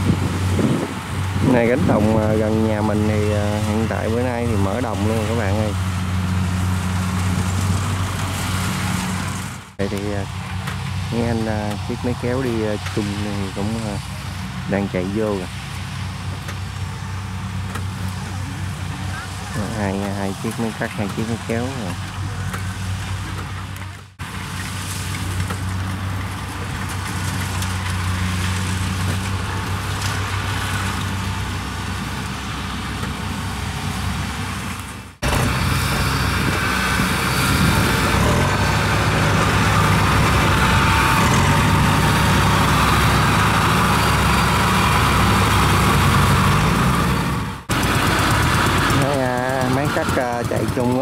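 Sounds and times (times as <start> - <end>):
harvester engines running: 0.0 - 51.0.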